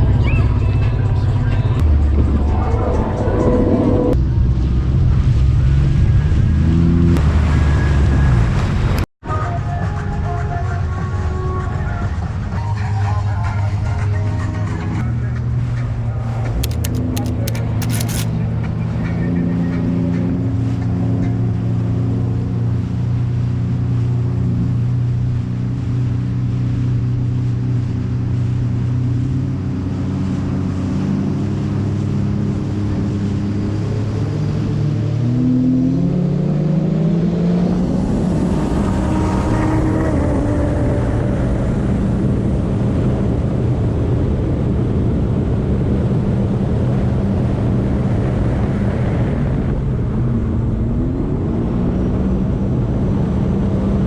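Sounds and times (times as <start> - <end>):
water rushing: 0.0 - 9.5, 10.7 - 54.0
jet ski engine running: 0.0 - 54.0
wind: 0.0 - 54.0.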